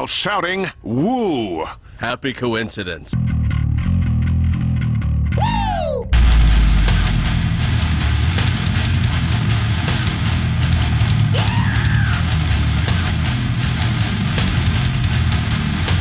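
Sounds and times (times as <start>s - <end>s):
death metal music: 3.2s - 16.0s.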